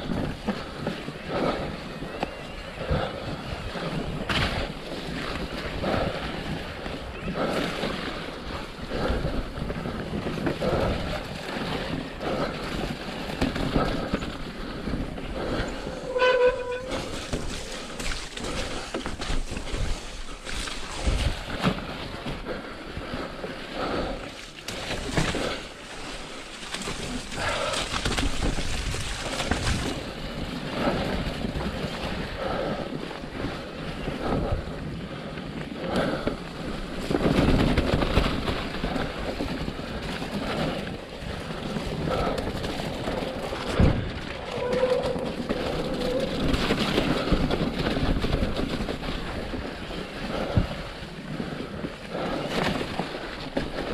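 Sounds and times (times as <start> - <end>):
bike rattling over bumps: 0.0 - 53.9
bike tyres on dirt: 0.0 - 53.9.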